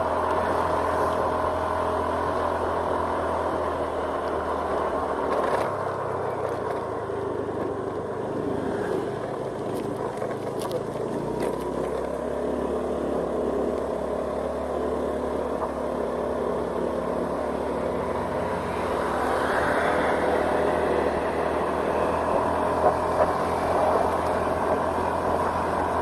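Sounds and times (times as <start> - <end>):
vehicle engine and tyre noise: 0.0 - 26.0.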